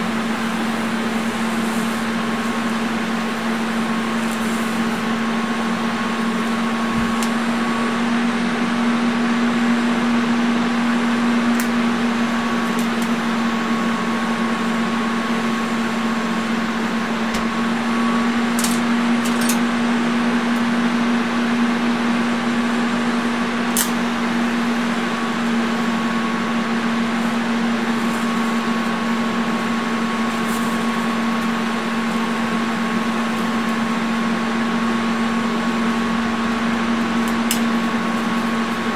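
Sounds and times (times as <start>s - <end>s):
welder electrical hum: 0.0s - 38.9s.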